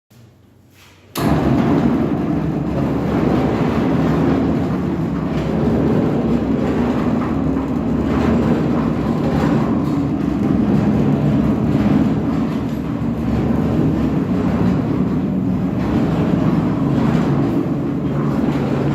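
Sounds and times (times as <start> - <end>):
concrete mixer truck rumbling: 1.2 - 18.9.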